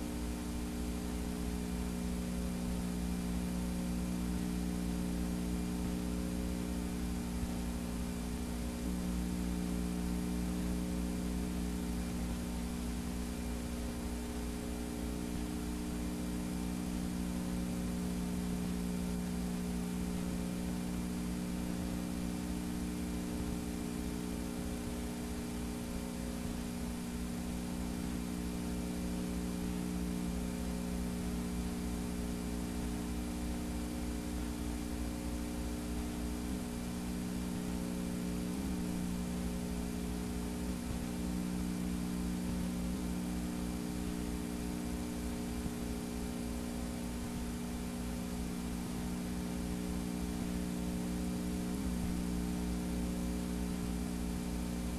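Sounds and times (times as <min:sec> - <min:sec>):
electrical hum: 0:00.0 - 0:54.9
tape hiss: 0:00.0 - 0:54.9.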